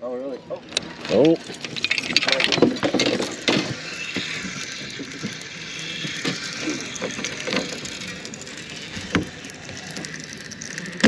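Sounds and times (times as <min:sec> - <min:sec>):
fishing reel whirring: 0:00.1 - 0:11.0.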